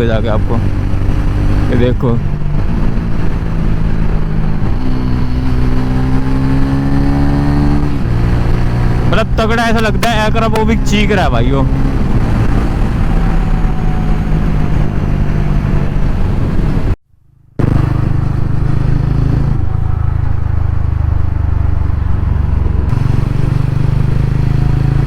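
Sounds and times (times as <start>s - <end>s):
motorcycle engine and exhaust: 0.0s - 25.0s.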